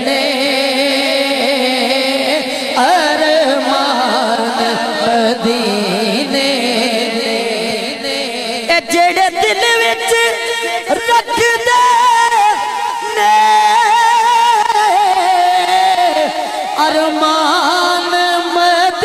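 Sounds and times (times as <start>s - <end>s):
men singing melismatic notes: 0.0s - 19.0s.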